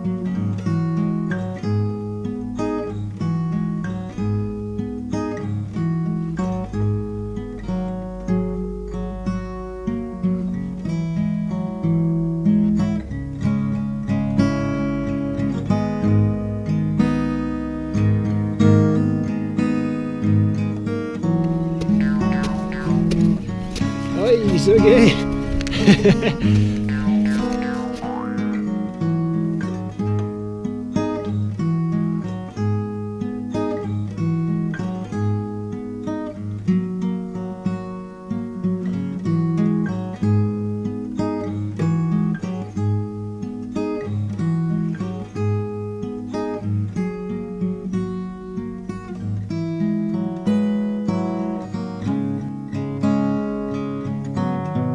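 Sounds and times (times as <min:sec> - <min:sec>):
acoustic guitar chords: 0:00.0 - 0:54.9.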